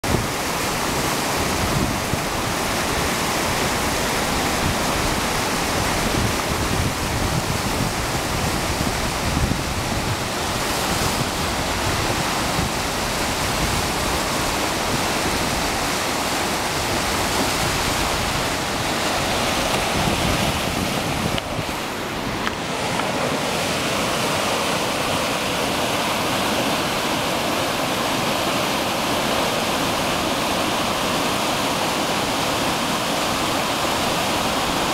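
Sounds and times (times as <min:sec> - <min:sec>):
whitewater rushing: 0:00.0 - 0:34.9.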